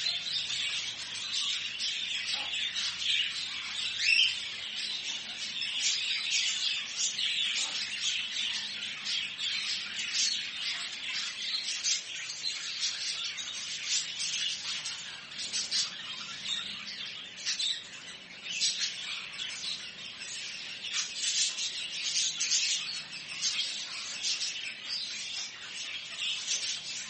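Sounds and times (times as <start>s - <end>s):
small birds chirping and twittering: 0.0s - 27.0s.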